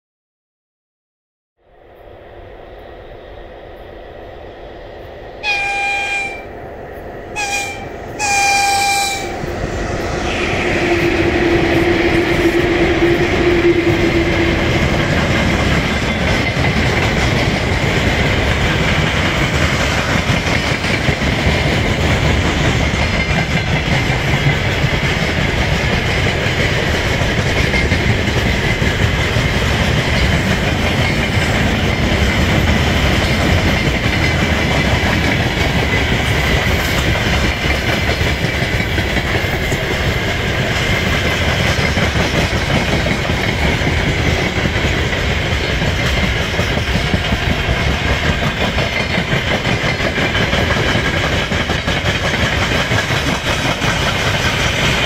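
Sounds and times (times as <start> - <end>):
freight wagon wheels on rails: 5.4 - 55.0.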